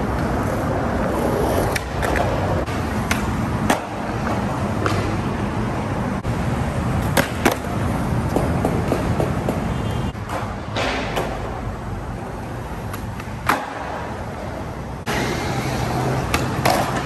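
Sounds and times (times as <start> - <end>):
skateboard clacking on ground: 0.0 - 5.4, 7.0 - 17.0
road traffic hum: 0.0 - 17.0
skateboard wheels rolling on concrete: 0.0 - 17.0.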